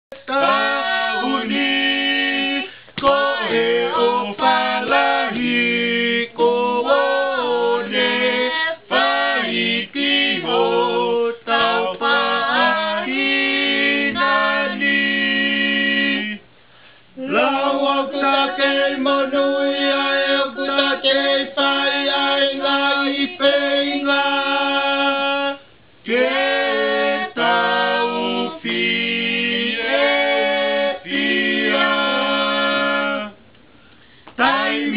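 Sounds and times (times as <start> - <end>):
male and female voices singing: 0.1 - 16.5, 17.1 - 33.4, 34.3 - 34.9.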